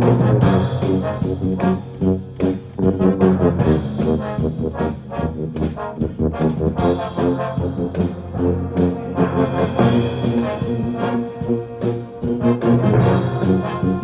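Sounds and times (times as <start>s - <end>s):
brass band chords: 0.0s - 14.0s
tuba low notes: 0.0s - 14.0s.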